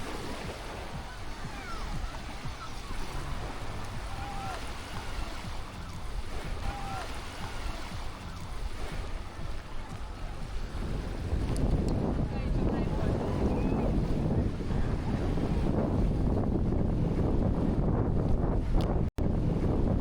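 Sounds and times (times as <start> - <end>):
small waves washing onto shore: 0.0 - 20.0
wind on microphone: 0.0 - 20.0.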